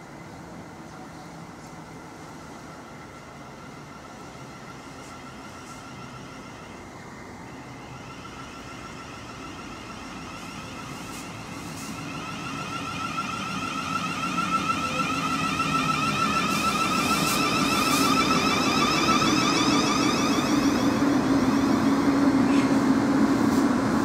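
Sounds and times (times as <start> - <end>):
electric train whine: 0.0 - 24.0
train rumbling on rails: 0.0 - 24.0.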